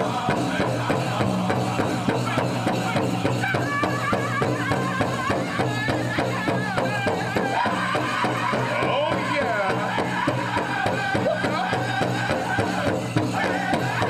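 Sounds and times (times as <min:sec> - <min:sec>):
big drum fast beat: 0:00.0 - 0:14.0
singers' high voices: 0:00.0 - 0:14.0.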